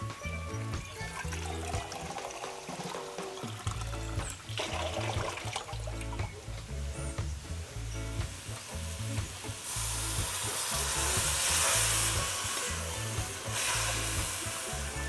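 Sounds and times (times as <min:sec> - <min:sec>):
water sizzling in hot pot: 0:00.0 - 0:15.0.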